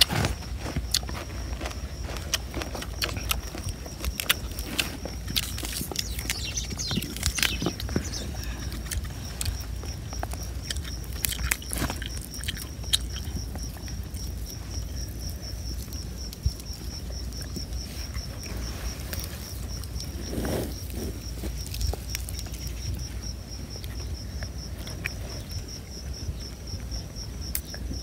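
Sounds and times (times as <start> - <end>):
hands rustling a leaf: 0.0 - 25.5
insect chirping: 0.0 - 28.0.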